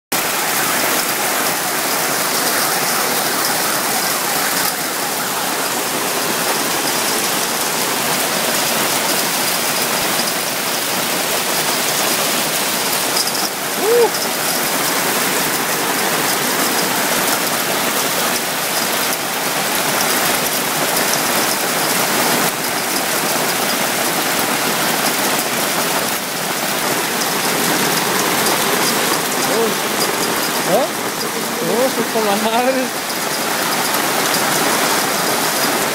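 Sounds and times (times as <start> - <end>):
hail and rain pelting: 0.1 - 35.9.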